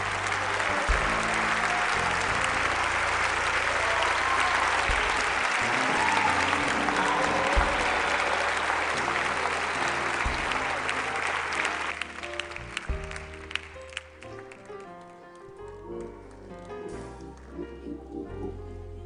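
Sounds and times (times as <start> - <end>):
congregation applauding: 0.0 - 16.6
instrumental church music: 0.0 - 19.0.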